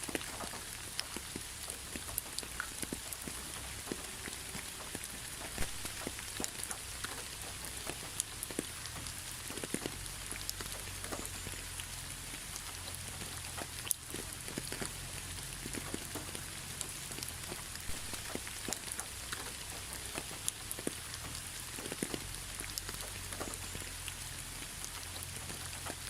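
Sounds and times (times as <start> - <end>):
raindrops ticking on a surface: 0.0 - 26.0
steady rain hiss: 0.0 - 26.0.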